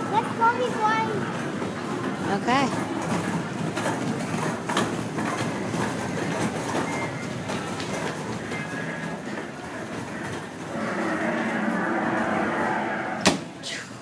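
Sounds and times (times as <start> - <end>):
road train running on brick paving: 0.0 - 13.6.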